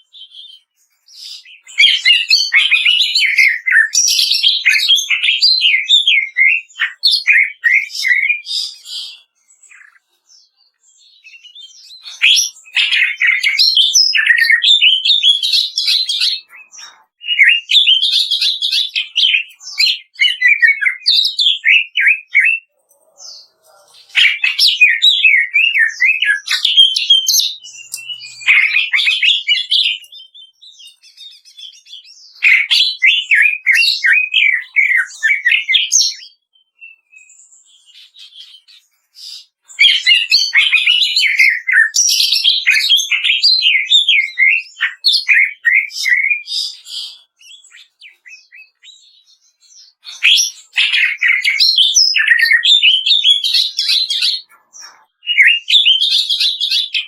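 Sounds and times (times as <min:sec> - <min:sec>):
bird singing chirps and trills: 0:00.0 - 0:57.0.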